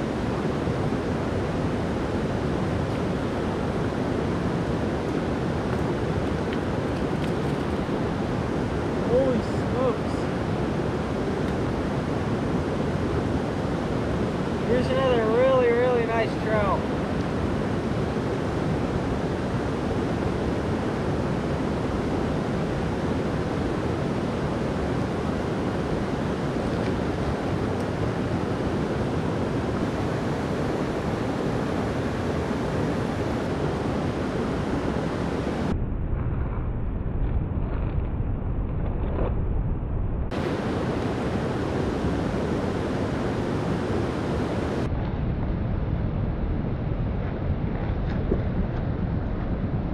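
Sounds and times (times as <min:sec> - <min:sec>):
creek water rushing: 0:00.0 - 0:35.7, 0:40.3 - 0:44.9.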